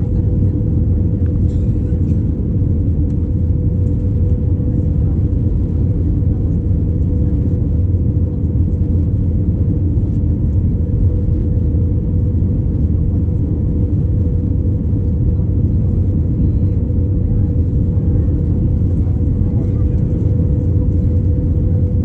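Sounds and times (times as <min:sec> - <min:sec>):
airflow over fuselage: 0:00.0 - 0:22.0
jet engine rumble: 0:00.0 - 0:22.0
steady mid-pitched hum: 0:00.0 - 0:22.0.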